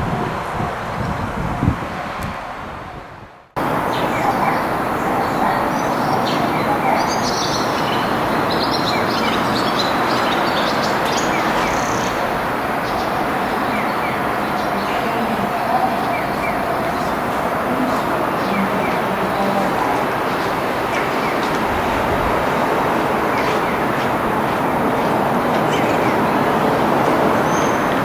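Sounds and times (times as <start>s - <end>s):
steady rushing noise: 0.0s - 28.0s
small birds chirping: 3.6s - 28.0s.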